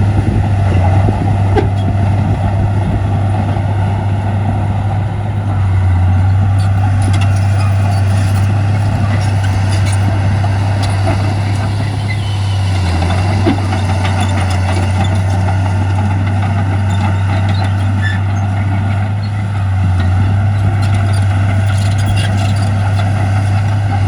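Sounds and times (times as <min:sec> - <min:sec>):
heavy diesel engine drone: 0:00.0 - 0:24.0.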